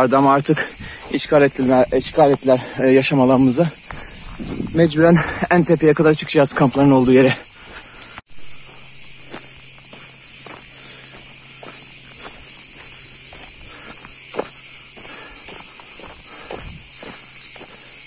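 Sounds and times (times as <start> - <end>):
cicadas buzzing: 0.0 - 18.0
footsteps on dry dirt trail: 0.0 - 18.0.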